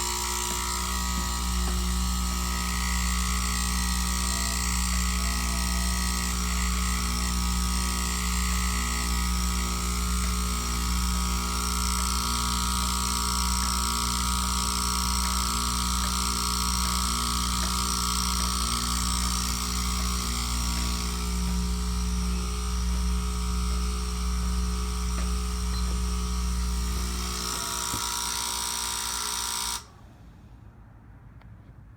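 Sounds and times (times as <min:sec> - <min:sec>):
loud electrical buzz: 0:00.0 - 0:30.0.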